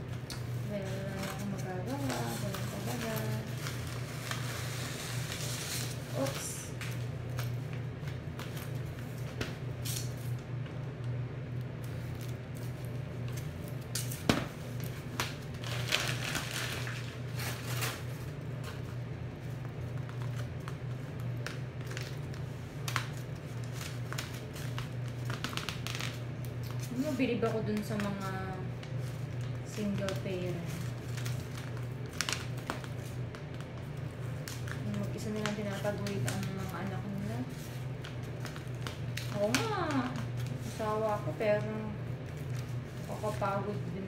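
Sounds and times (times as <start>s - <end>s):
styrofoam sheets rustling and tapping: 0.0s - 10.2s, 11.8s - 43.8s
plastic sheet crinkling: 0.0s - 10.9s, 11.7s - 44.0s
exhaust fan humming: 0.0s - 44.0s.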